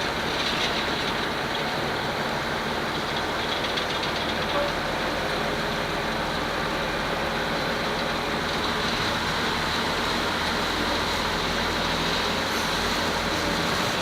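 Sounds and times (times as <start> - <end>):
ferry diesel engine drone: 0.0 - 14.0.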